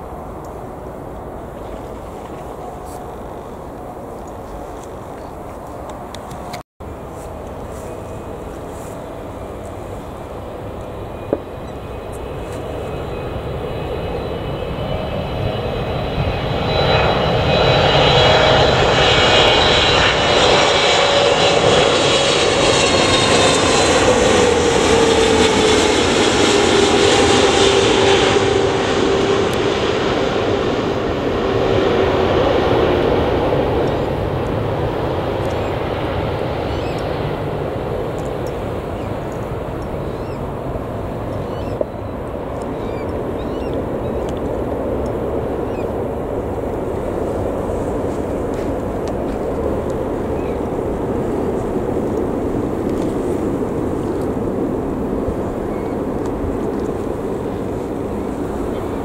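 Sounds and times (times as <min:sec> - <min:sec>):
jet airliner passing overhead: 0:00.0 - 0:59.0.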